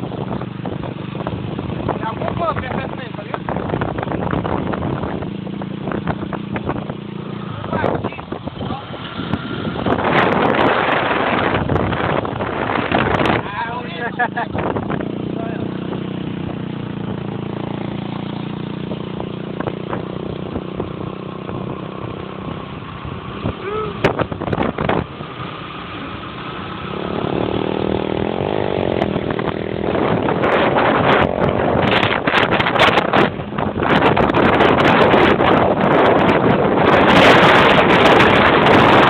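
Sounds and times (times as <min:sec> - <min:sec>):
vehicle engine running: 0:00.0 - 0:39.0
wind noise on microphone: 0:00.0 - 0:39.0.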